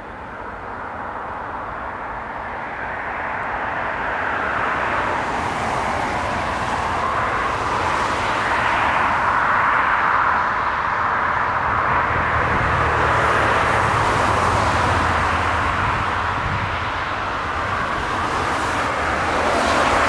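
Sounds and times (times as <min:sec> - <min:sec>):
jet engines at takeoff thrust: 0:00.2 - 0:20.0.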